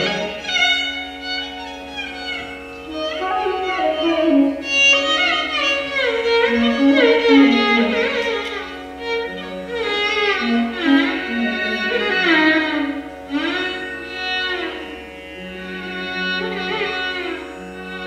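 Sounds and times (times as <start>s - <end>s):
solo violin melody: 0.0s - 18.0s
steady drone: 0.0s - 18.0s.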